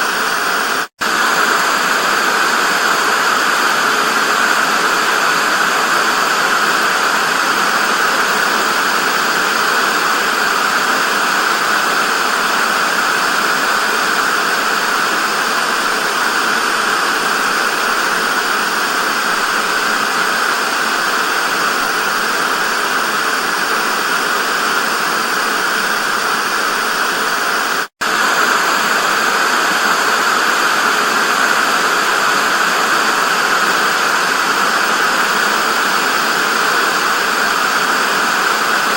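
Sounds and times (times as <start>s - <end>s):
tv static hiss: 0.0s - 38.9s.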